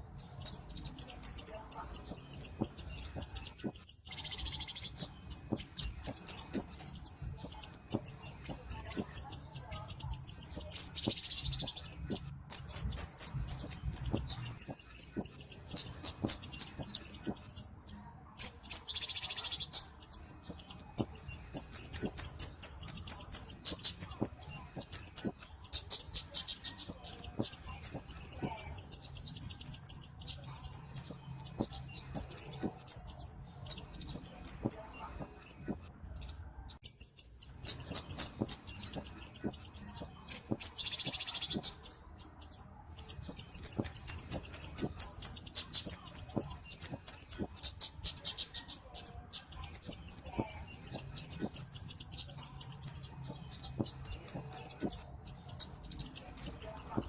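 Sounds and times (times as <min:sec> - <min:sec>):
bird calling in high ticking chips: 0:00.0 - 0:35.8, 0:36.7 - 0:57.0.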